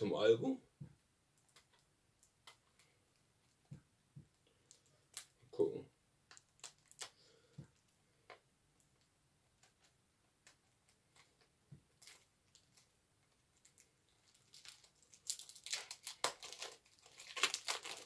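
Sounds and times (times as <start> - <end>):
plastic wrapping clicks and crinkles: 1.4 - 5.4, 6.3 - 8.0, 8.8 - 18.0.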